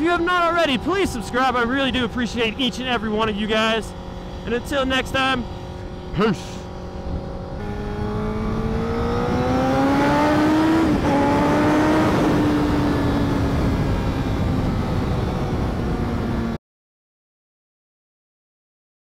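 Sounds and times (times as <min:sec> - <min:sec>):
motorcycle engine accelerating: 0:00.0 - 0:16.6
wind and road rush: 0:00.0 - 0:16.6.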